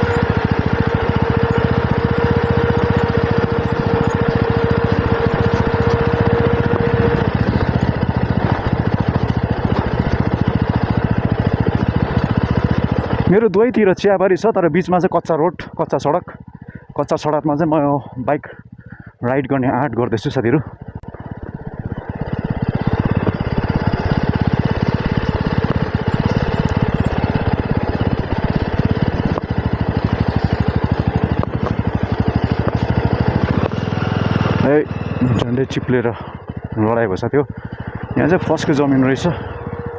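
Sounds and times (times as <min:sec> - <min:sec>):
thin steady whine: 0:00.0 - 0:13.5, 0:19.2 - 0:39.9
motorcycle engine running steadily: 0:00.0 - 0:39.9.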